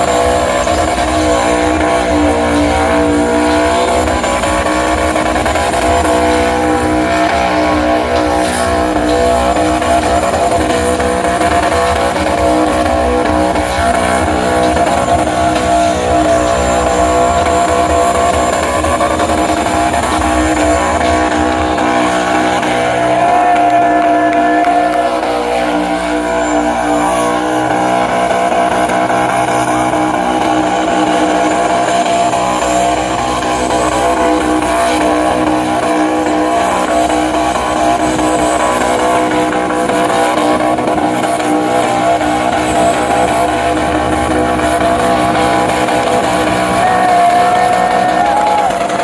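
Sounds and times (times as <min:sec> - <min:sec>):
engine at high revs: 0:00.0 - 0:49.0.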